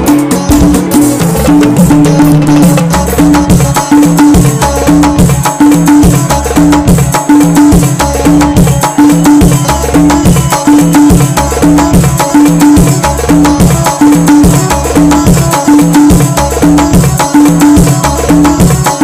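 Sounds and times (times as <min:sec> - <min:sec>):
background music with percussion beat: 0:00.0 - 0:19.0.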